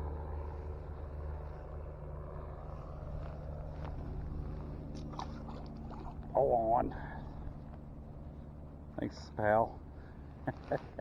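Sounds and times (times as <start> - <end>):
low background rumble with hum: 0.0 - 11.0.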